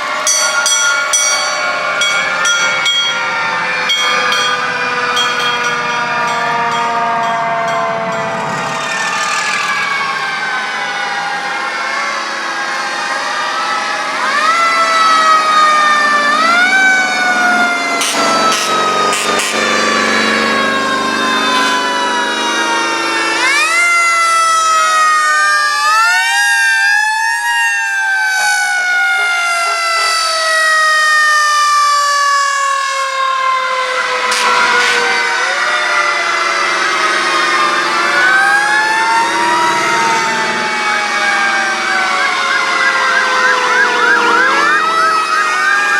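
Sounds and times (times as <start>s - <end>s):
fire truck siren wailing: 0.0s - 45.9s.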